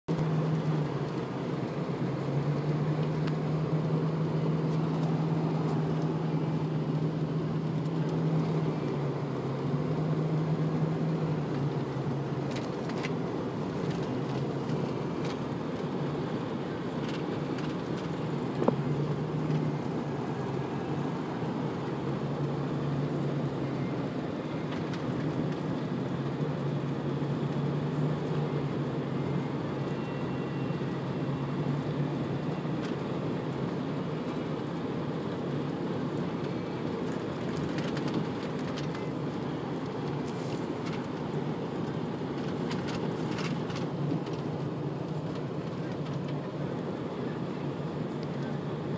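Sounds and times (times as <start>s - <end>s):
vehicle engine running: 0.1s - 48.9s.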